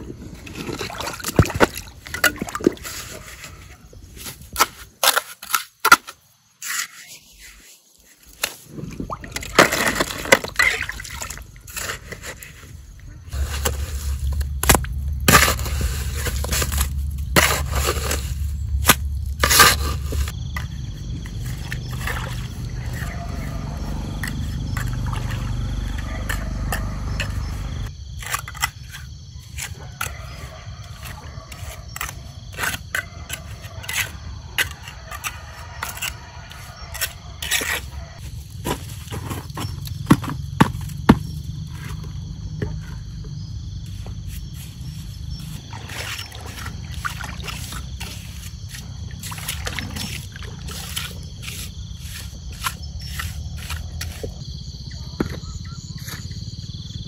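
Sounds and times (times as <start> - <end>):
hand scoop scraping rocks and mud: 0.0 - 43.1, 43.7 - 54.4.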